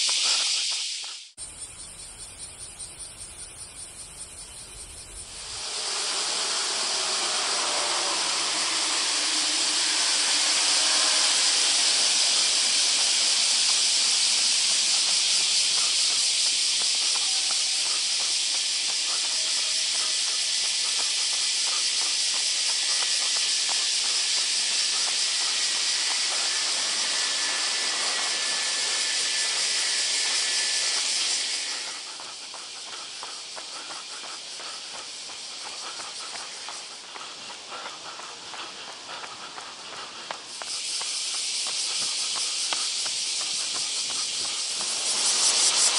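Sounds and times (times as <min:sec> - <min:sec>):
cicadas chorus: 0:00.0 - 0:45.9.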